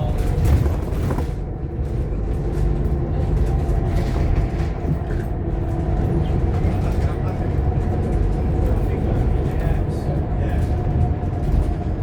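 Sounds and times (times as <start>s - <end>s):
bus diesel engine drone: 0.0s - 12.0s
road rumble: 0.0s - 12.0s.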